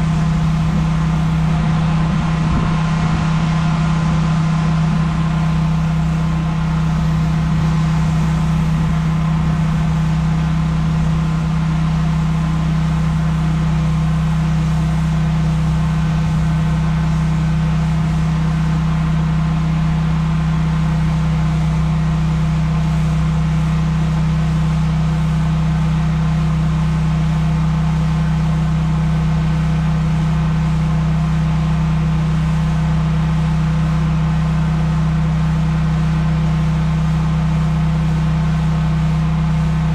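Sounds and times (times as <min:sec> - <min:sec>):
pressure washer engine humming: 0:00.0 - 0:39.9.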